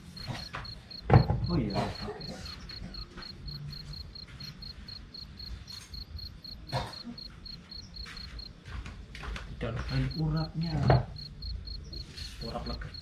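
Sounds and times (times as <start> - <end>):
cricket chirping: 0.0 - 8.6, 9.6 - 13.0.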